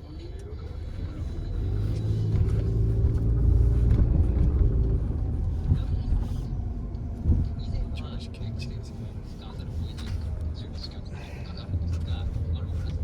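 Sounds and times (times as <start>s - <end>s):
vehicle rumble inside moving car: 0.0s - 13.0s.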